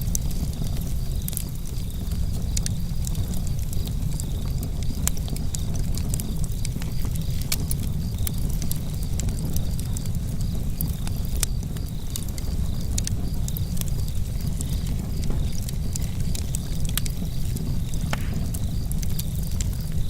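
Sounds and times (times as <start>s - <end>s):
campfire crackling and popping: 0.0s - 20.0s
crickets chirping: 0.0s - 20.0s.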